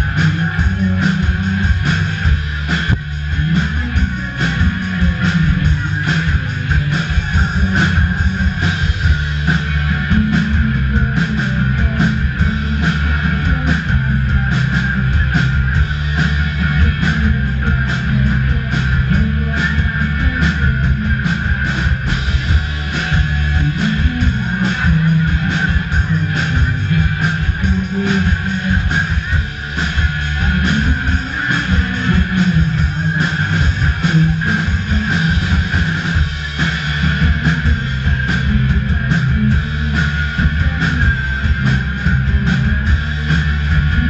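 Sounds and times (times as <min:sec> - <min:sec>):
bass guitar: 0:00.0 - 0:44.0
drum kit: 0:00.0 - 0:44.0
electric guitars strummed: 0:00.0 - 0:44.0.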